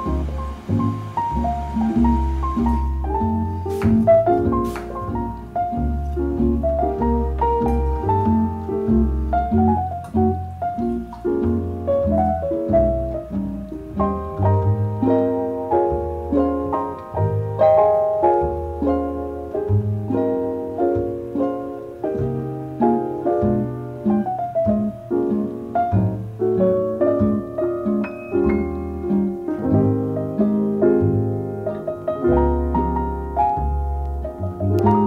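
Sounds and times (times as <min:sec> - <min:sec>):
piano chords and melody: 0:00.0 - 0:35.0
plucked double bass: 0:00.0 - 0:35.0.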